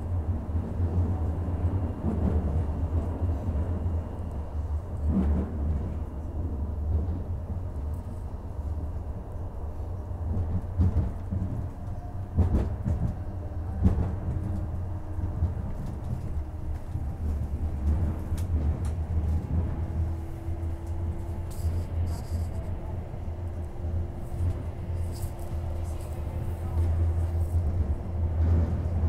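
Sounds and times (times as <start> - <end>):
tram running low rumble: 0.0 - 29.0.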